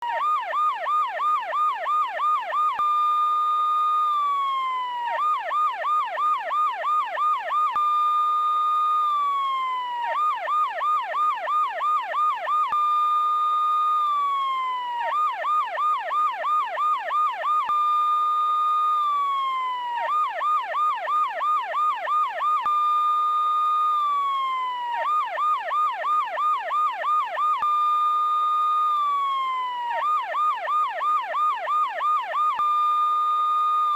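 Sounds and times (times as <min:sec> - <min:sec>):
police car siren: 0:00.0 - 0:33.9.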